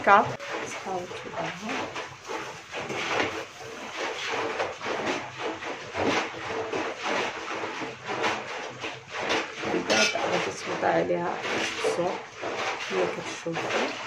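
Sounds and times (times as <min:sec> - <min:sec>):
plastic sheet rustling and crinkling: 0:00.0 - 0:14.0.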